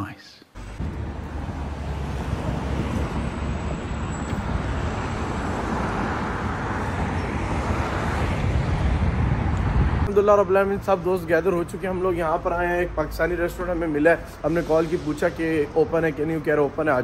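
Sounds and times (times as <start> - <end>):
car passing: 0.6 - 17.0
road traffic rumble: 0.6 - 17.0.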